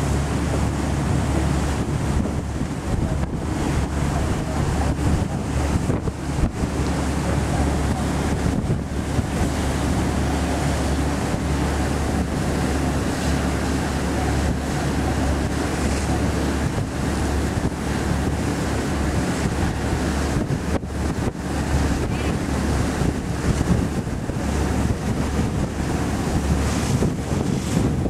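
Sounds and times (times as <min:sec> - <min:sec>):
motor boat engine drone: 0:00.0 - 0:28.0
water rushing along hull: 0:00.0 - 0:28.0
wind buffeting microphone: 0:00.0 - 0:28.0.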